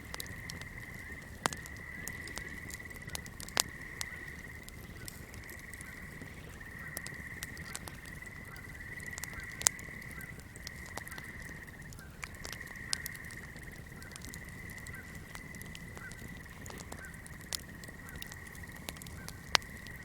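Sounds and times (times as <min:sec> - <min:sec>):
fire crackles: 0:00.0 - 0:20.0
frogs or insects trilling: 0:00.0 - 0:20.0.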